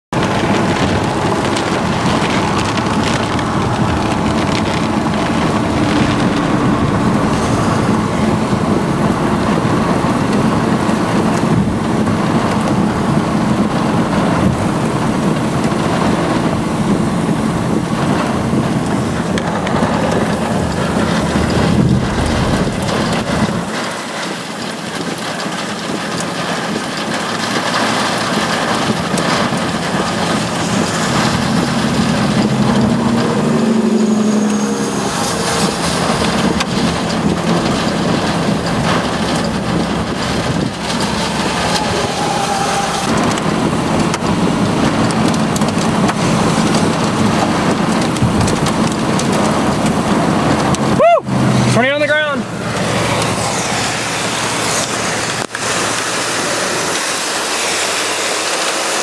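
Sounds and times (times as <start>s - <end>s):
wet tyre and road noise: 0.0s - 59.0s
heavy rain on a car: 0.2s - 59.0s.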